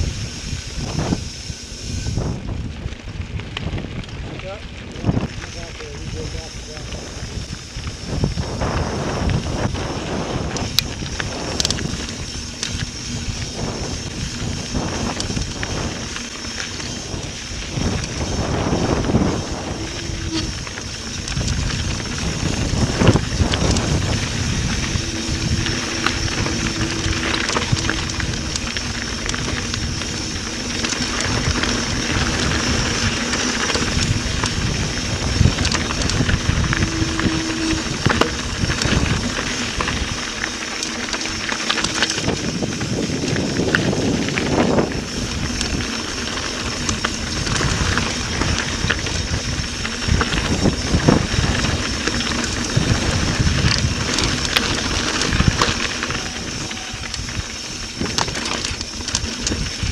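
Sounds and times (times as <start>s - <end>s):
bike rattling over bumps: 0.0s - 59.9s
bike tyres crunching on gravel: 0.0s - 59.9s
wind buffeting microphone: 0.0s - 59.9s.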